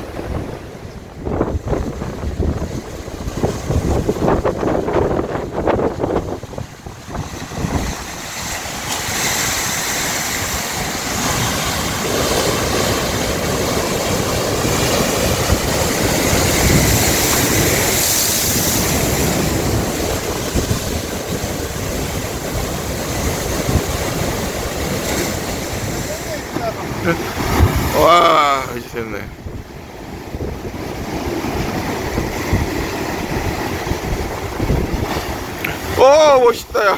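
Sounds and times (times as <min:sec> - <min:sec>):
sea waves breaking: 0:00.0 - 0:36.9.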